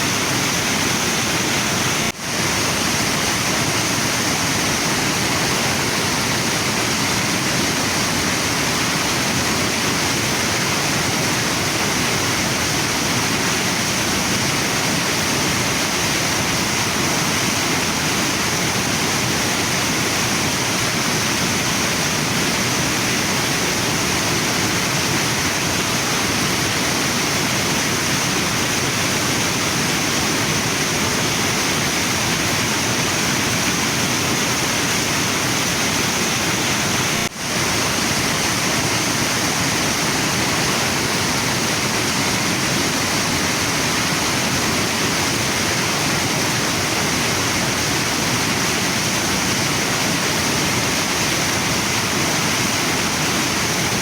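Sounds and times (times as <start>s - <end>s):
waterfall and river rushing: 0.0s - 54.0s.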